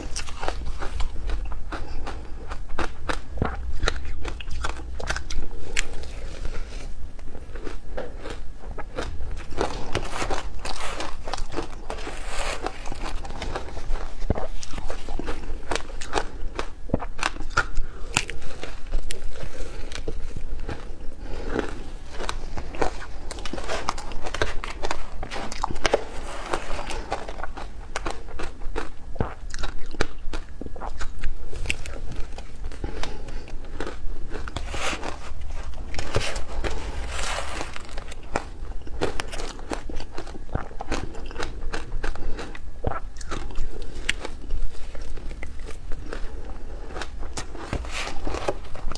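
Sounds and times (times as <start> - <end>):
crunching frozen ice bites: 7.5 - 48.9.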